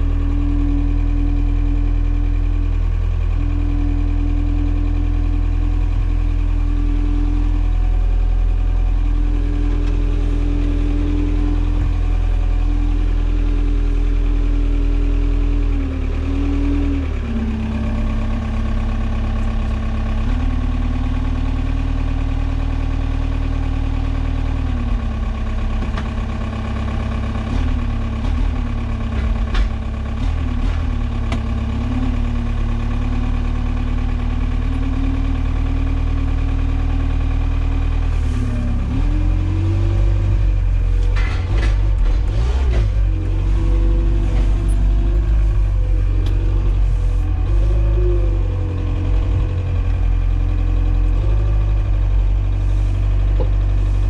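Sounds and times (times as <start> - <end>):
forklift engine humming and whining: 0.0 - 54.0.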